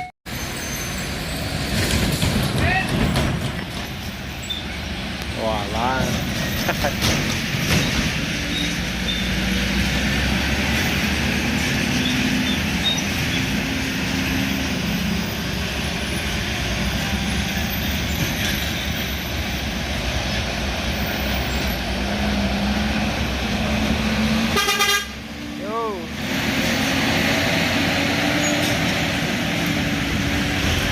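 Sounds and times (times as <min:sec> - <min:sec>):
heavy road traffic: 0:00.0 - 0:30.9.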